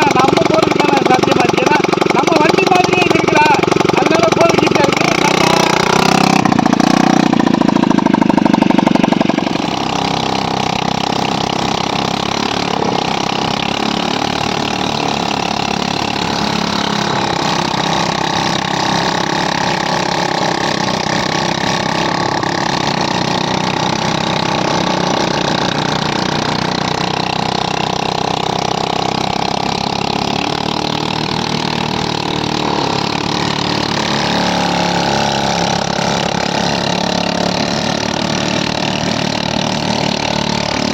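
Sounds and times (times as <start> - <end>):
quad bike engine running: 0.0 - 40.9.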